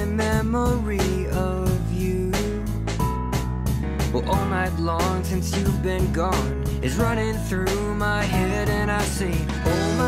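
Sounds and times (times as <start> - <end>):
person singing: 0.0 - 2.7, 4.1 - 10.0
pop song with guitar and beat: 0.0 - 10.0.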